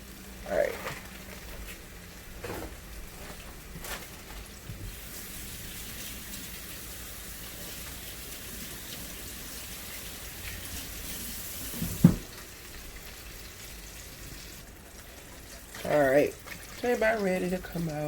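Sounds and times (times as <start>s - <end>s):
deep-frying sizzle: 0.0s - 18.0s.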